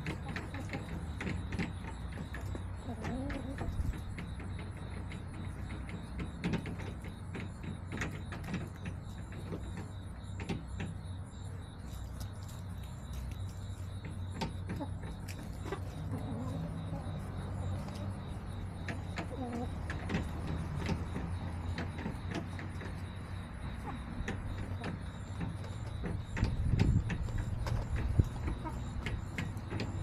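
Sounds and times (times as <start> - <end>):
hens pecking and scratching: 0.0 - 30.0.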